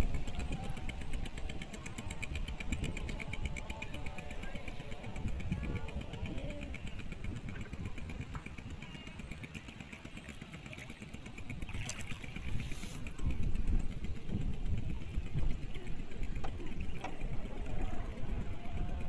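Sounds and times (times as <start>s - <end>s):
boat engine running: 0.0s - 19.0s
water washing past hull: 0.0s - 19.0s.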